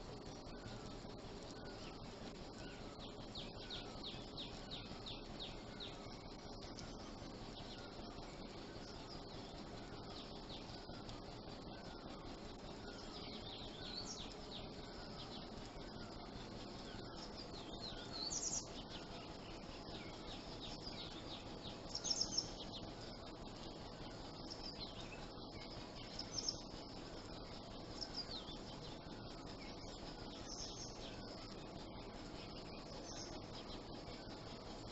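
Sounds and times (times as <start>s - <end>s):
background hiss: 0.0s - 34.9s
songbirds chirping: 0.0s - 34.9s.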